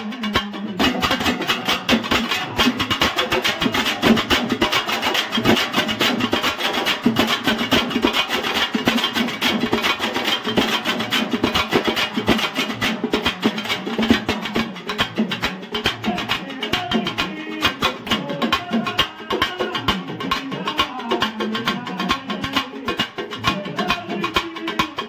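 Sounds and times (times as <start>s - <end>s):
drums played in fast rhythm: 0.0s - 25.0s.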